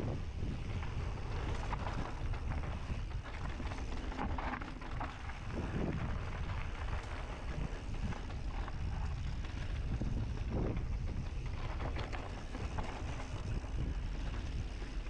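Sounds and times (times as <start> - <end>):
bike tyres rattling on dirt: 0.0 - 15.0
wind buffeting microphone: 0.0 - 15.0
small knocks and crackles: 1.5 - 15.0.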